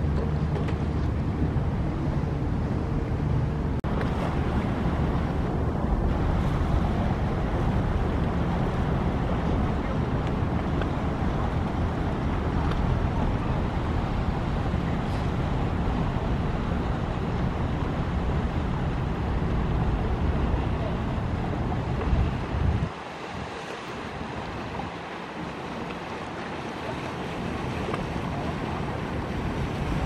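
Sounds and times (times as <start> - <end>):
outboard engine running: 0.0 - 30.0
water noise: 0.0 - 30.0
wind buffeting microphone: 0.0 - 30.0.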